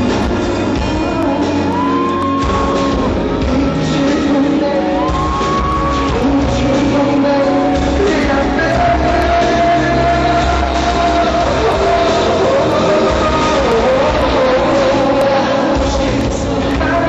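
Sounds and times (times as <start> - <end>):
live pop music: 0.0 - 17.0
person singing: 0.0 - 17.0.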